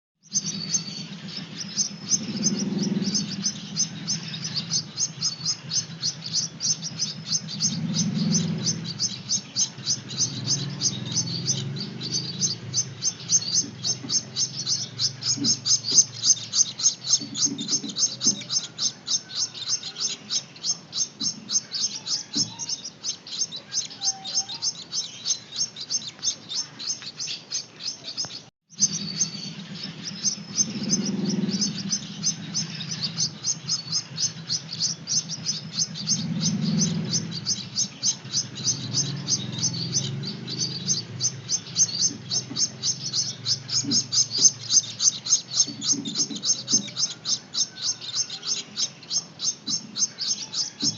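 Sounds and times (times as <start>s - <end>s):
finch chicks begging chirps: 0.2s - 50.9s.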